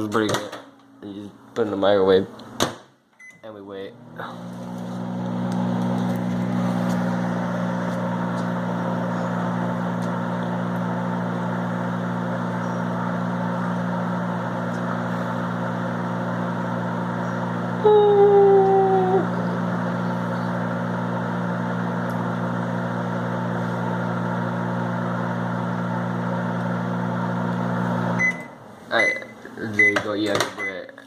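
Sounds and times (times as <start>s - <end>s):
microwave oven humming: 3.2s - 30.9s.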